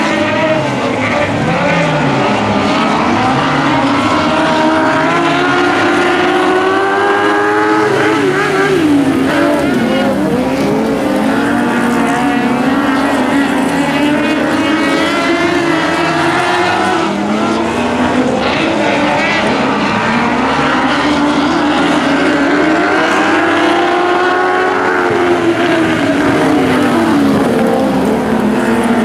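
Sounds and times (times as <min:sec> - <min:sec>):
racing car engines at high revs: 0:00.0 - 0:29.0.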